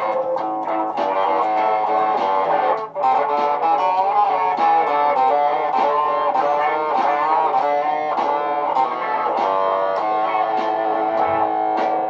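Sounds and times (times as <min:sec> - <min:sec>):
layered guitar loops: 0:00.0 - 0:12.0.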